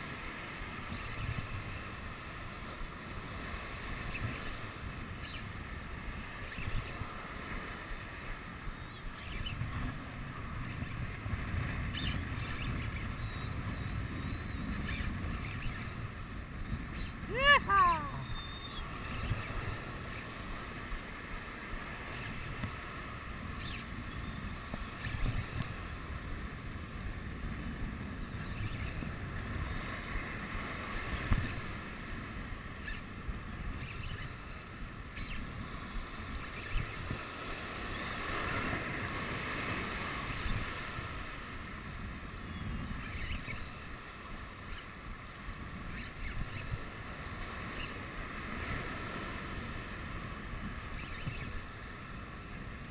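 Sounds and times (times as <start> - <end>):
wind on microphone: 0.0 - 52.9.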